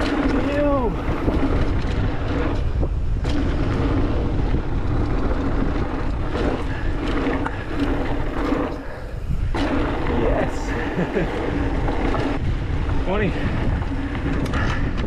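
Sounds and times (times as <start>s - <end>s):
bike tyres on packed dirt: 0.0s - 15.0s
wind buffeting microphone: 0.0s - 15.0s.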